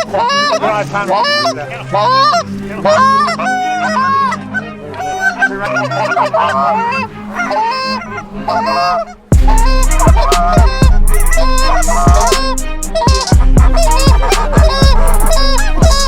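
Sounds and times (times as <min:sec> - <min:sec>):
geese honking and clucking: 0:00.0 - 0:16.0.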